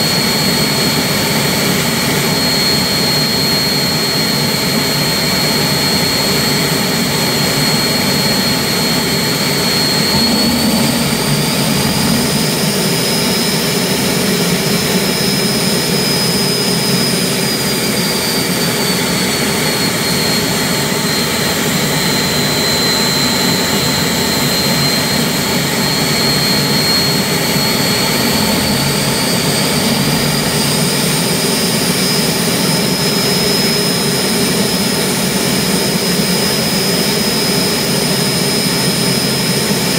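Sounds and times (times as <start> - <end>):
gas turbine engine roaring: 0.0 - 39.9
high turbine whine: 0.0 - 39.9.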